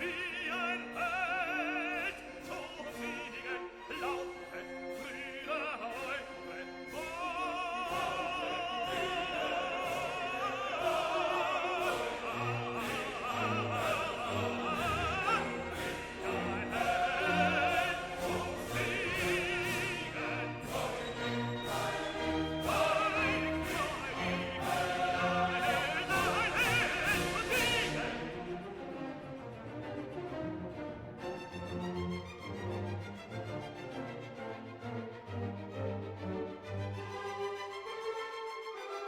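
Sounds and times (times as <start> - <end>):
operatic singing: 0.0 - 32.6
orchestra: 0.0 - 39.0.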